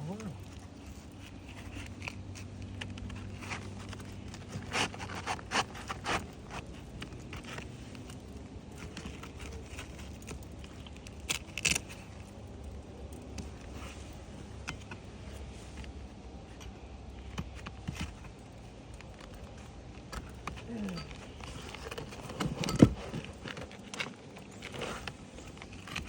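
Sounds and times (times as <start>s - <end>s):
roof shingles clicking and scraping: 0.4s - 26.0s.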